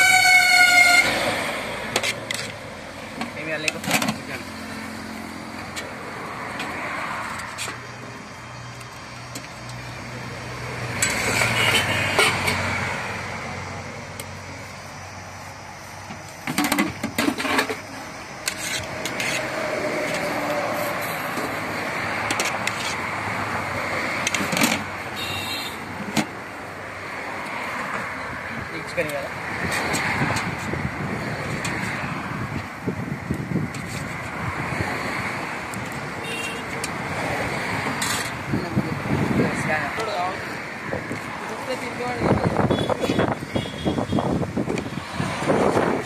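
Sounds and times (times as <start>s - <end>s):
highway traffic passing: 0.0s - 46.0s.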